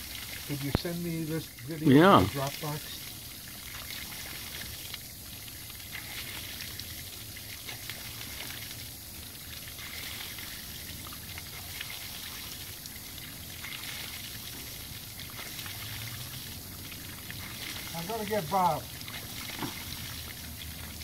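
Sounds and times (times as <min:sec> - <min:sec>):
water splashing onto grass: 0:03.5 - 0:21.0.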